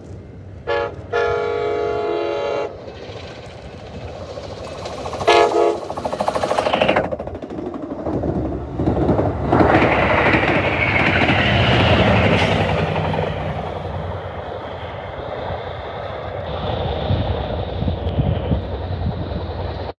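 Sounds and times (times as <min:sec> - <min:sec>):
train wheels rumbling on rails: 0:00.0 - 0:20.0
clickety-clack over rail joints: 0:02.6 - 0:19.9.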